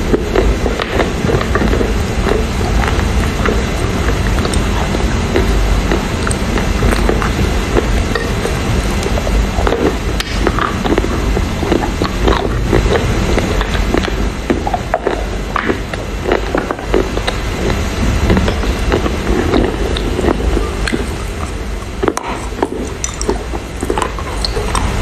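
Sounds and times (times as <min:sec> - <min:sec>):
crunchy chewing of clay: 0:00.0 - 0:25.0
steady low hum: 0:00.0 - 0:25.0.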